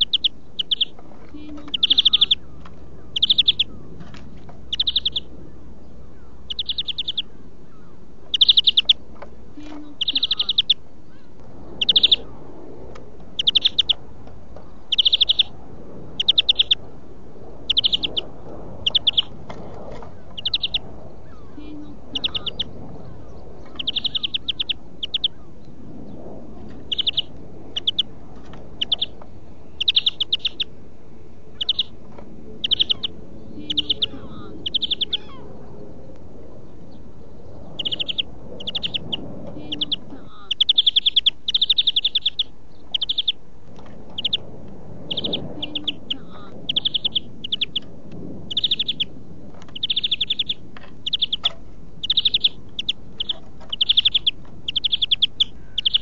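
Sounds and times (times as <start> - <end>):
finch singing high trills: 0.0 - 4.0, 4.7 - 9.0, 9.6 - 12.4, 13.3 - 14.0, 14.6 - 15.6, 16.2 - 16.8, 17.7 - 19.4, 20.1 - 25.7, 26.7 - 28.1, 28.8 - 30.8, 31.5 - 32.0, 32.6 - 43.4, 44.1 - 44.5, 45.1 - 47.9, 48.5 - 49.1, 49.7 - 56.0.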